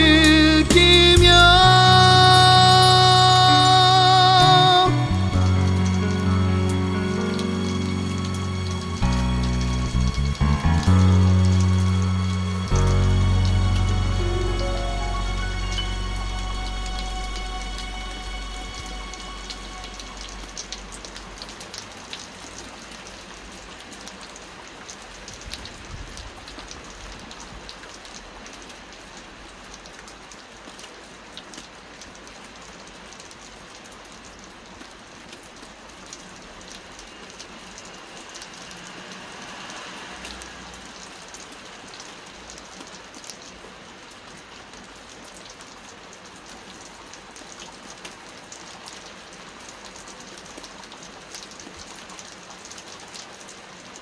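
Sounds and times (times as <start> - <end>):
rain on wet pavement: 0.0 - 54.0.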